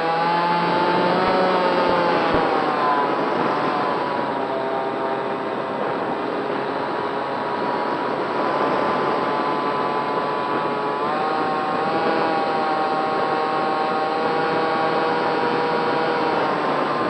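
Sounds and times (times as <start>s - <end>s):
electric motor and propeller whine: 0.0s - 17.0s
wind noise: 0.0s - 17.0s.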